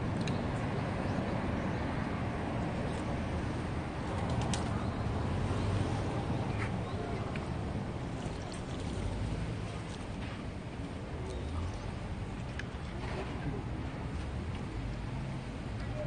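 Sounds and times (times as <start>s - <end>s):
low street rumble: 0.0s - 16.0s.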